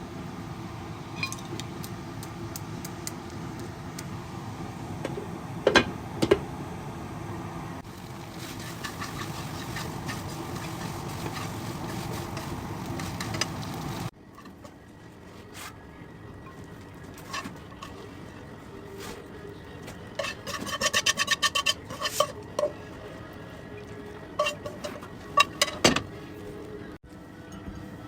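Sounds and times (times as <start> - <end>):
low cooking rumble: 0.0 - 28.0.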